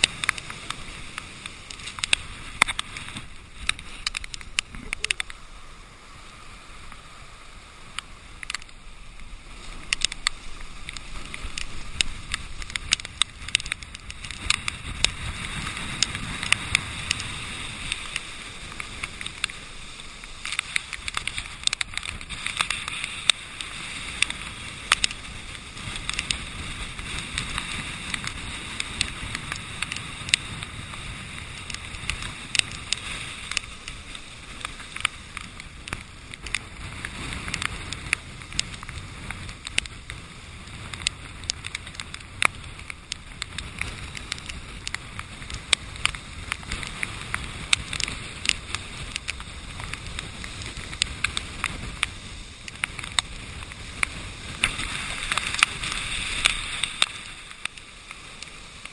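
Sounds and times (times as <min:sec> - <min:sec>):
muffled surf breaking: 0:00.0 - 0:58.9
wind rumbling on microphone: 0:00.0 - 0:58.9.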